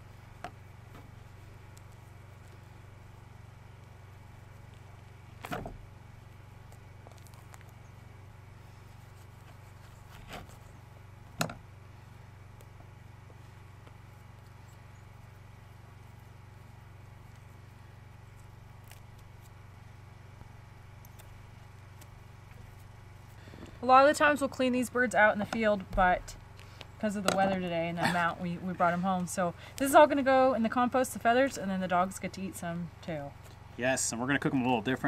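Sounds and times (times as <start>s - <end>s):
low engine hum: 0.0s - 35.0s.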